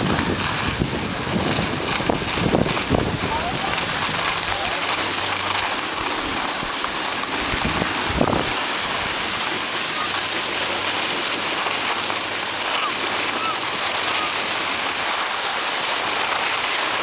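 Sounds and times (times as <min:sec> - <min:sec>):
snowboard sliding over snow: 0:00.0 - 0:17.0.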